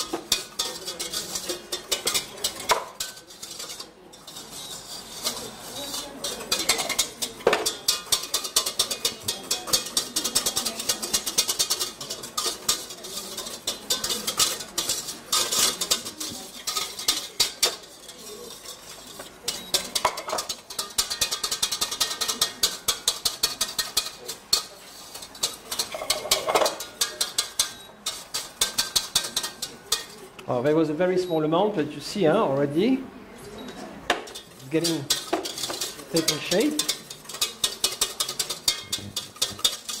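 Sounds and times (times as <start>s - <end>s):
whisk beating in metal saucepan: 0.0s - 31.4s, 33.6s - 40.0s.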